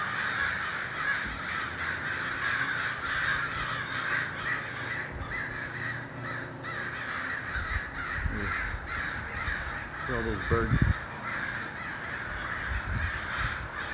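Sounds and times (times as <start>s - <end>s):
flock of crows cawing: 0.0s - 13.9s.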